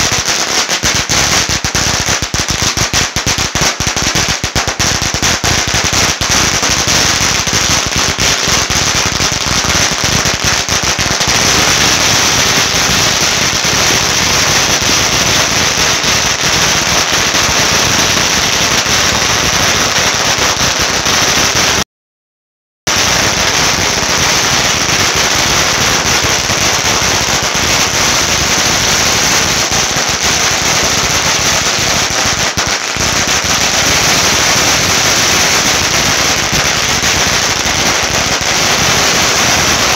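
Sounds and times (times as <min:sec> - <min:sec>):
firecrackers crackling: 0:00.0 - 0:21.9, 0:22.9 - 0:39.9.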